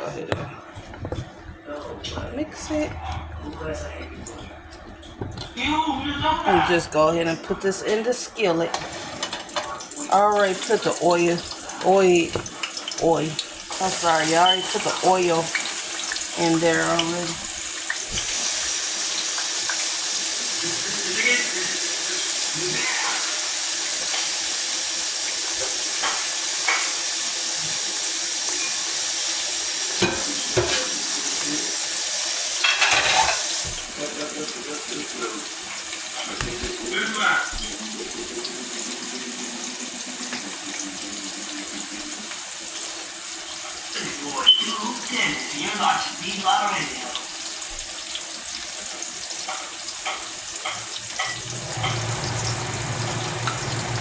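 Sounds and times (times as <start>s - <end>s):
slices sizzling in hot oil: 9.2s - 54.0s.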